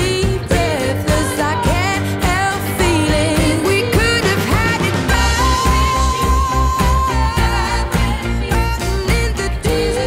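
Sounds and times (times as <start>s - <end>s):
person singing pop song: 0.0s - 10.0s
steady bass beat: 0.0s - 10.0s.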